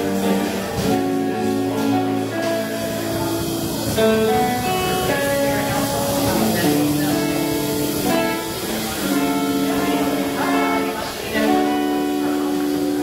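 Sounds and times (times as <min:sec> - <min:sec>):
live rock band with electric guitars: 0:00.0 - 0:13.0.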